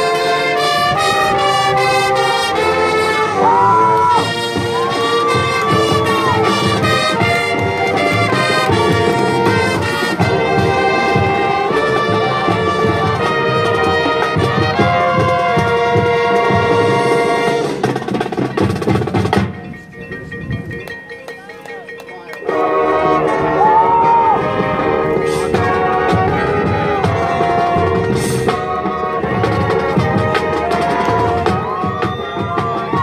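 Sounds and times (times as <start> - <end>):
brass chords: 0.0 - 19.6, 21.3 - 33.0
drums and percussion: 0.0 - 33.0.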